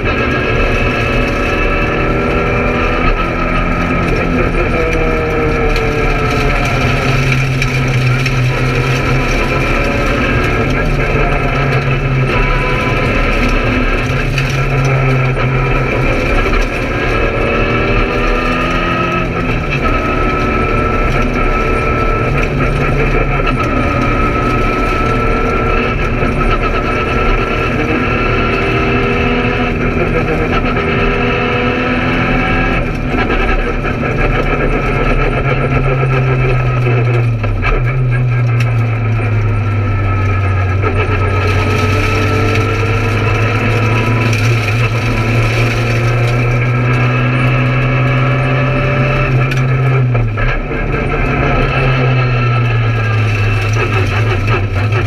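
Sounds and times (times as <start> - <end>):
rally car engine revving: 0.0 - 55.0
road and tyre noise: 0.0 - 55.0.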